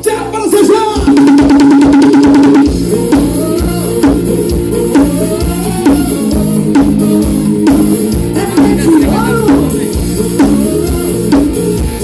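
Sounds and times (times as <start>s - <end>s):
loud music through car speakers: 0.0s - 12.0s.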